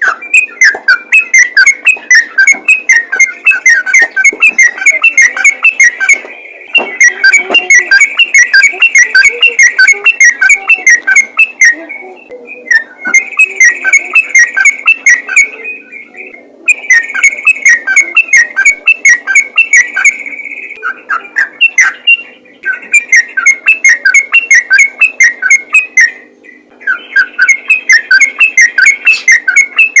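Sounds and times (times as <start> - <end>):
bulbul singing whistled notes: 0.0 - 30.0.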